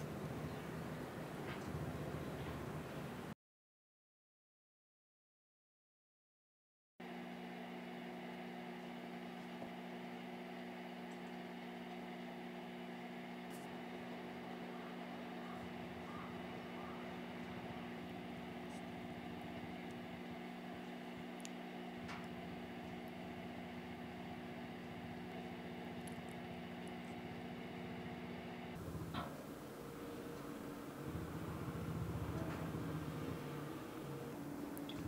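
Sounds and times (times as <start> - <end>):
electrical hum with droning tones: 0.0 - 3.4, 7.0 - 35.0.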